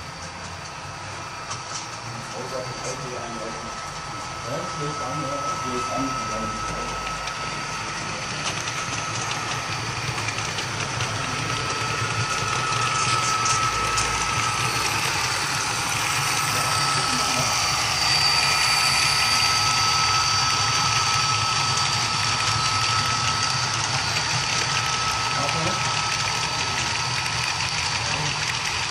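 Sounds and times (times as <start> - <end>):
model train running on rails: 0.0 - 28.9
thin steady whine: 0.0 - 28.9.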